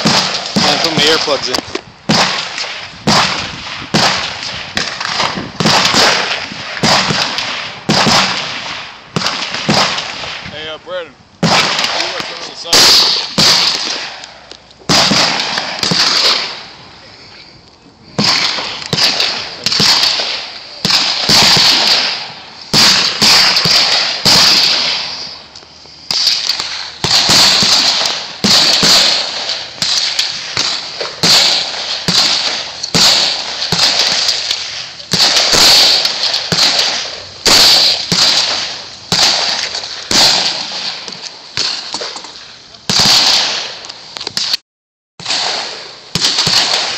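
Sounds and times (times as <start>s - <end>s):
gunshots with echo: 0.0s - 10.5s, 11.4s - 14.3s, 14.9s - 16.7s, 18.2s - 25.4s, 26.1s - 42.2s, 42.9s - 43.8s, 45.2s - 46.9s.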